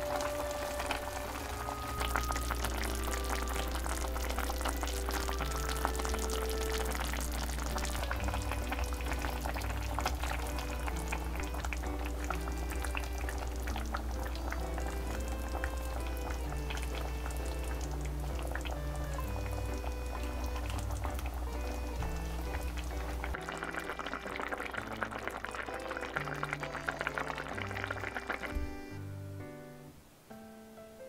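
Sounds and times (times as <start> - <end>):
stew bubbling and crackling: 0.0 - 29.0
background music: 0.0 - 31.0.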